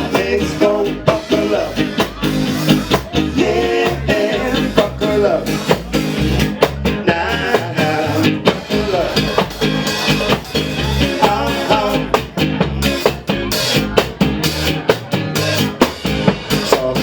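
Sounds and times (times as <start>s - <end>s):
drum kit beat: 0.0s - 17.0s
guitar playing: 0.0s - 17.0s.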